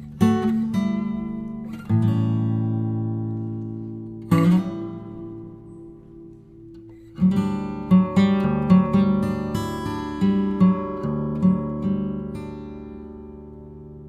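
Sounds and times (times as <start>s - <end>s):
strummed guitar chords: 0.0s - 14.0s.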